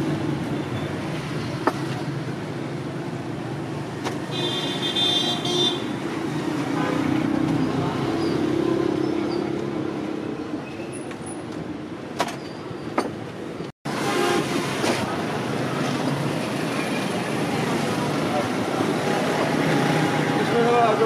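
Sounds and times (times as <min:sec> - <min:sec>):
street traffic din: 0:00.0 - 0:21.0.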